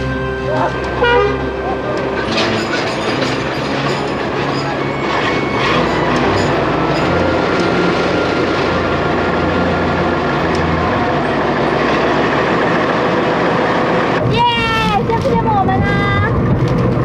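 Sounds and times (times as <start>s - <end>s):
diesel locomotive engine drone: 0.0s - 17.0s
wheels rumbling on rails: 0.0s - 17.0s.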